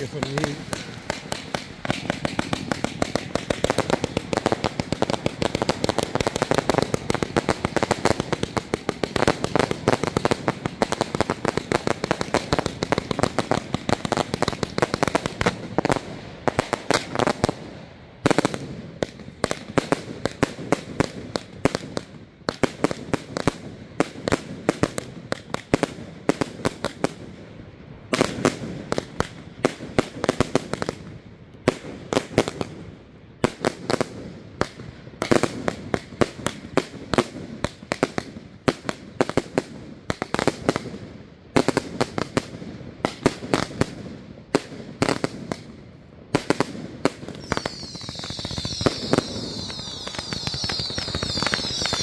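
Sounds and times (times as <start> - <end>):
fireworks crackling and popping: 0.0 - 52.0.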